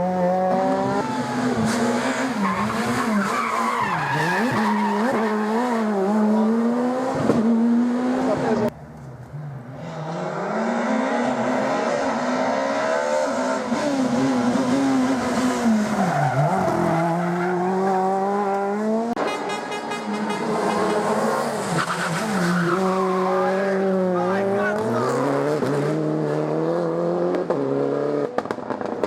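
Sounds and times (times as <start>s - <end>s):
rally car engine revving: 0.0s - 8.8s, 9.7s - 19.3s, 20.0s - 29.0s.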